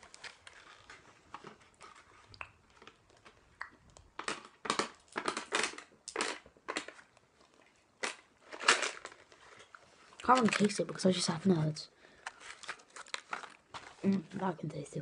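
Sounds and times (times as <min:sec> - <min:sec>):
hard candy crunching: 0:00.0 - 0:11.0, 0:12.1 - 0:14.2.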